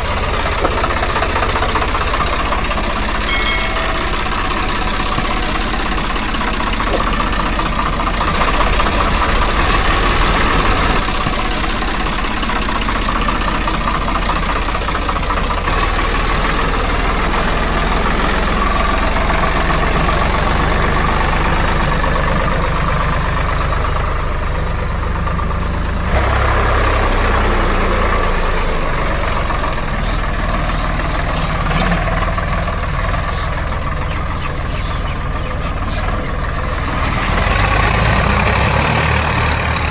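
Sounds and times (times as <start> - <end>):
engine running with low hum: 0.0 - 39.9.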